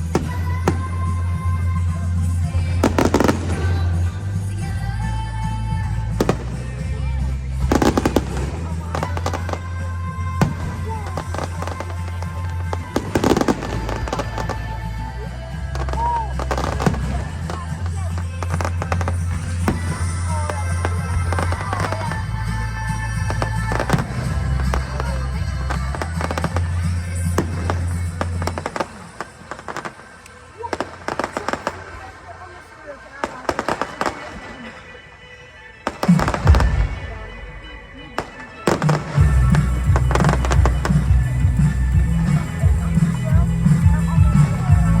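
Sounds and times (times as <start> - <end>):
music with heavy bass: 0.0 - 29.2, 36.0 - 45.0
fireworks bangs and crackles: 0.0 - 35.2, 35.8 - 45.0.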